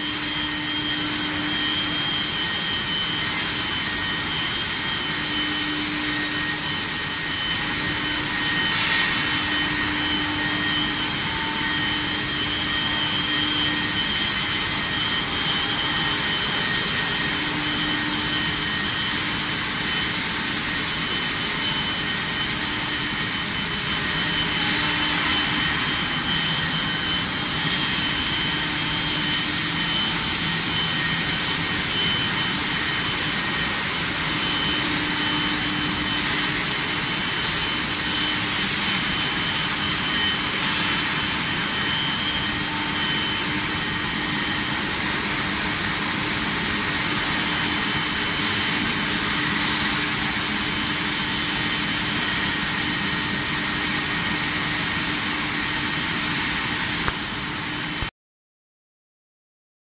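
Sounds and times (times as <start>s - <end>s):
thin whining tones: 0.0s - 55.1s
steady rushing machine noise: 0.0s - 58.1s.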